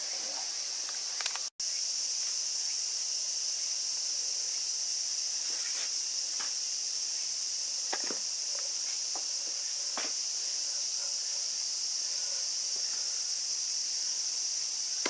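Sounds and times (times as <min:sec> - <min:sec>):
insect chorus shrilling: 0:00.0 - 0:15.0.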